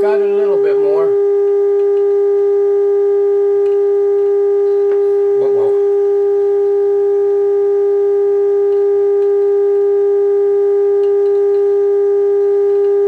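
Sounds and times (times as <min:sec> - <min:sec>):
buzzy test tone from radio speaker: 0:00.0 - 0:13.0.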